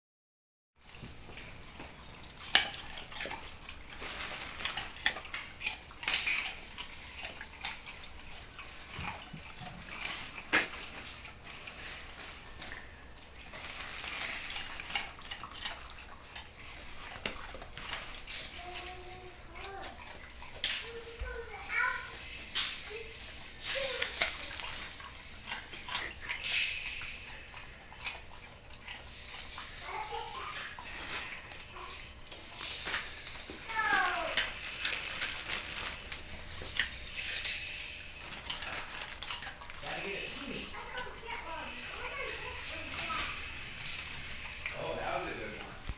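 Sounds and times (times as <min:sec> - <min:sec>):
dog crunching a carrot: 0:00.8 - 0:45.9.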